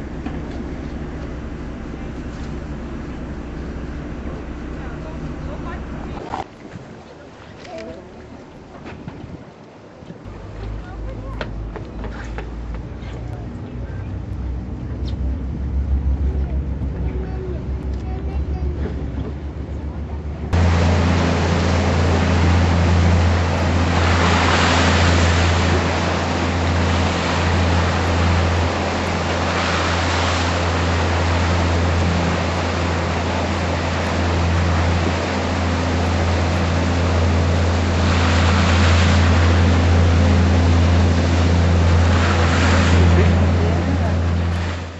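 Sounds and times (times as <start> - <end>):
boat engine humming: 0.0 - 44.9
wind and water rushing: 0.0 - 44.9.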